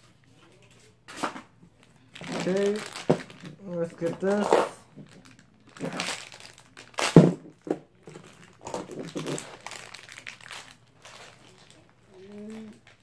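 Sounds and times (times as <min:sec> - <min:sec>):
plastic bag crinkling: 0:01.8 - 0:13.0.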